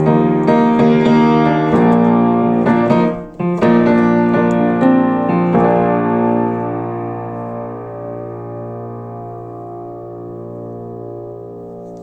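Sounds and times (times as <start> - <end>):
held keyboard chord: 0.0 - 12.0.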